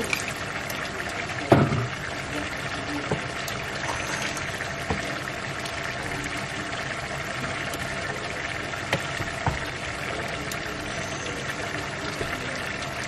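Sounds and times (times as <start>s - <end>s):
stew simmering in a pot: 0.0s - 13.0s.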